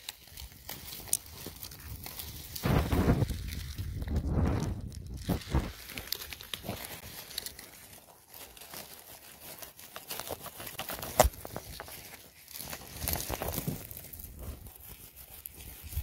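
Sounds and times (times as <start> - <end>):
dry grass crackling and rustling: 0.0 - 16.0.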